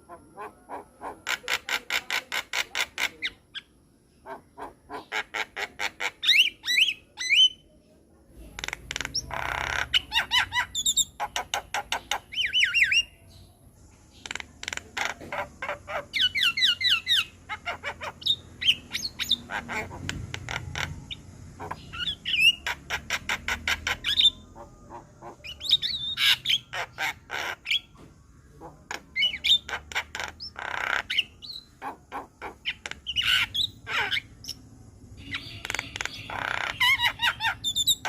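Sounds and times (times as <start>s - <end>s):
bird singing varied song: 0.0s - 38.0s.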